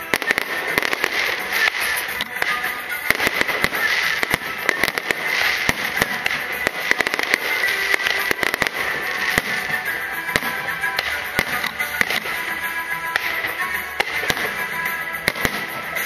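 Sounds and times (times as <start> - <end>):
fireworks bangs and pops: 0.0 - 16.0
fireworks crackling: 0.0 - 16.0.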